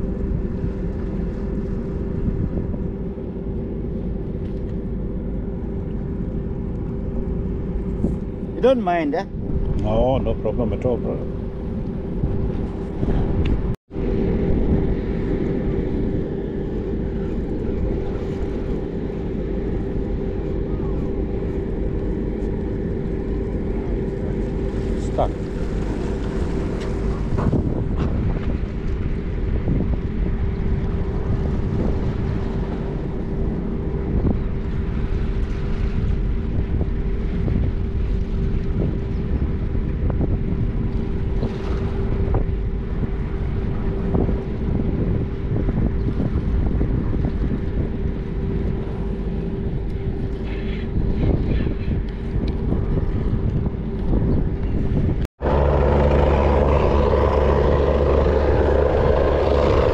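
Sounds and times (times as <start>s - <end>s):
deep ship engine drone: 0.0s - 59.9s
low engine drone: 0.0s - 59.9s
wind on microphone: 0.0s - 59.9s.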